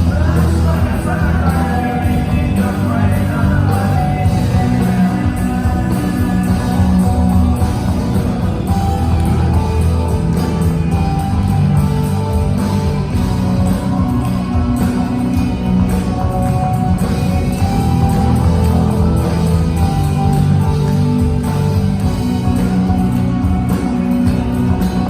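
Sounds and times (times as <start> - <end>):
rock song with singing: 0.0 - 25.0.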